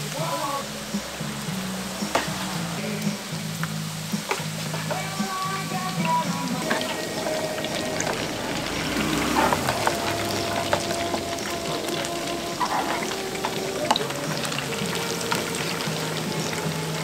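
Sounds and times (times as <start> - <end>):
background music: 0.0 - 17.0
hot oil sizzling: 0.0 - 17.0.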